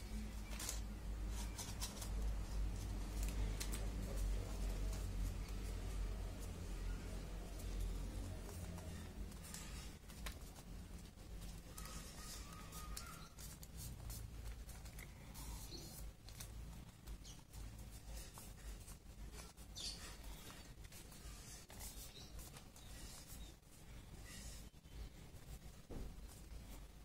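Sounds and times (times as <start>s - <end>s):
faint low hum: 0.0s - 27.0s
paper rustling and crinkling: 0.2s - 23.6s.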